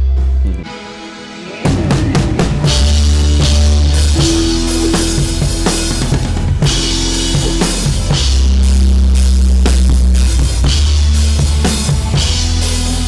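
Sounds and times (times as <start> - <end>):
drum kit: 0.0 - 13.0
live band music: 0.6 - 13.0
heavy held bass: 1.7 - 13.0.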